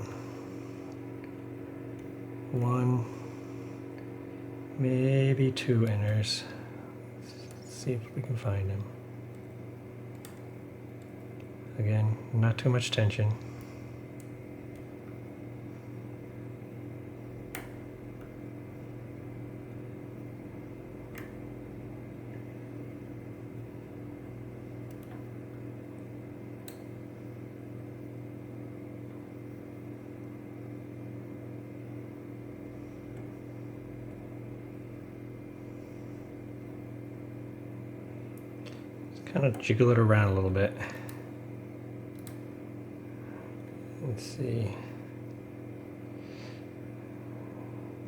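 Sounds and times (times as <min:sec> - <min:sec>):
background hum: 0:00.0 - 0:48.0.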